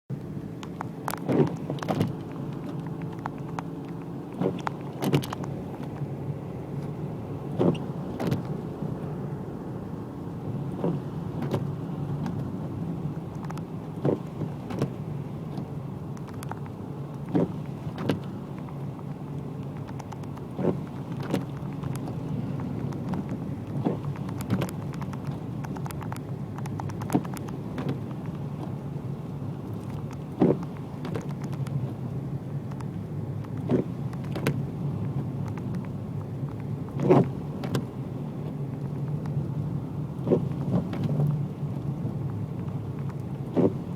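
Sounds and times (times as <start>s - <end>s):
car engine and road hum: 0.1s - 43.9s.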